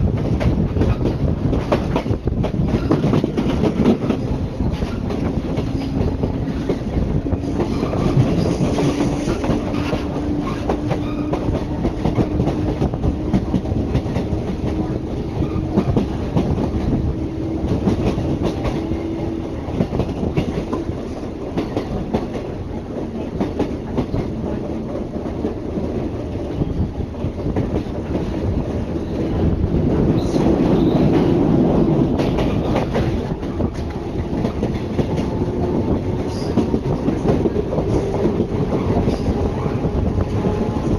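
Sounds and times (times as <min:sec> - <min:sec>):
clickety-clack over rail joints: 0:00.0 - 0:40.9
train wheels rumbling on rail: 0:00.0 - 0:40.9.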